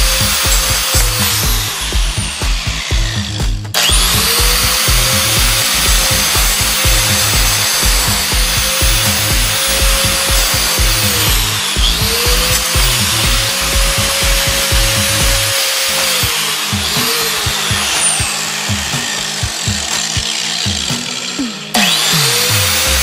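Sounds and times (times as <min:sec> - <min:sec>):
angle grinder grinding metal: 0:00.0 - 0:23.0
background music with a beat: 0:00.0 - 0:23.0.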